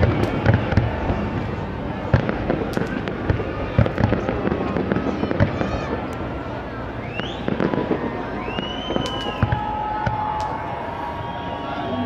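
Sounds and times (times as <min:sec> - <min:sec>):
firework crackling: 0:00.0 - 0:12.0.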